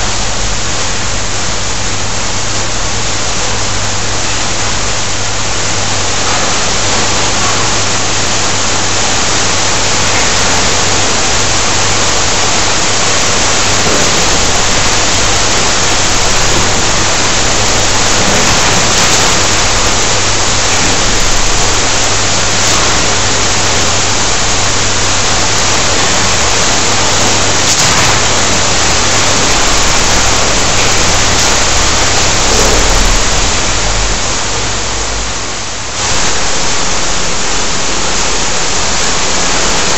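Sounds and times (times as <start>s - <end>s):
sparklers hissing and crackling: 0.0s - 34.3s
low hum: 0.0s - 35.8s.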